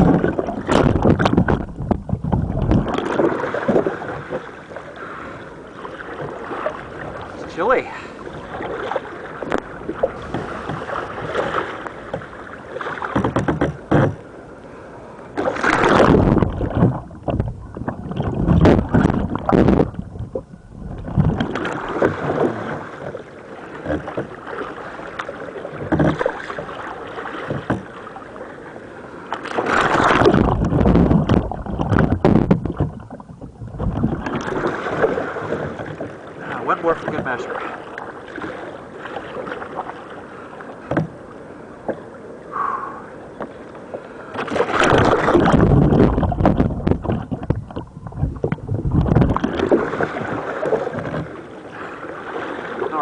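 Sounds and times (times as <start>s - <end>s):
water sloshing and dripping: 0.0s - 14.2s, 15.4s - 28.6s, 29.3s - 41.2s, 43.4s - 53.0s
water splashing and rushing: 0.0s - 14.6s, 15.2s - 53.0s.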